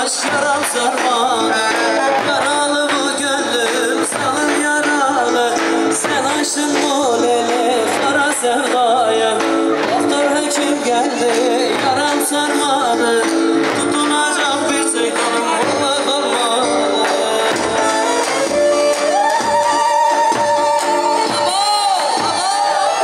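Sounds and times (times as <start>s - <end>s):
folk dance band playing: 0.0s - 23.0s.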